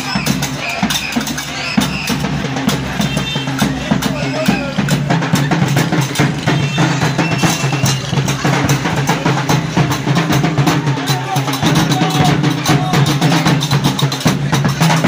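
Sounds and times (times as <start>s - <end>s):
band drumming fast: 0.0s - 15.0s
clacking percussion: 0.0s - 15.0s.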